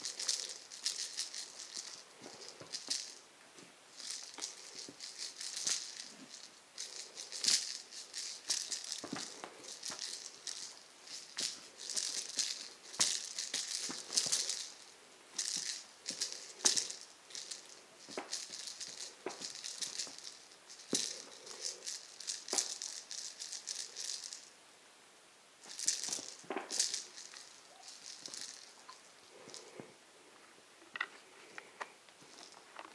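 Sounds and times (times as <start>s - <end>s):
cat toy rattle ball shaking: 0.0s - 3.3s, 3.9s - 24.6s, 25.6s - 29.9s, 32.2s - 32.6s.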